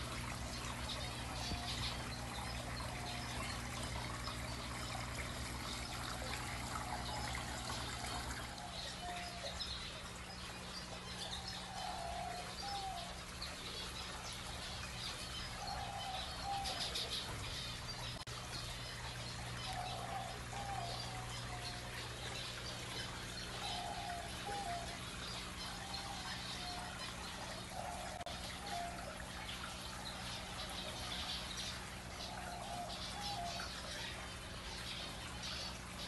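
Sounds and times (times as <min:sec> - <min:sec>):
birds chirping: 0:00.0 - 0:36.0
water trickling from fountain: 0:00.0 - 0:36.0.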